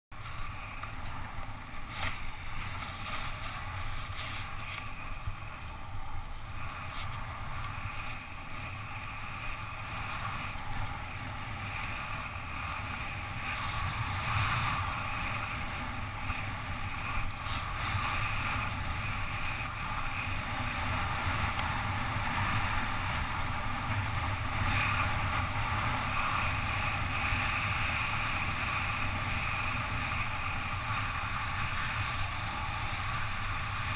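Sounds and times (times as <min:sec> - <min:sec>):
wind rushing over microphone: 0:00.2 - 0:33.9.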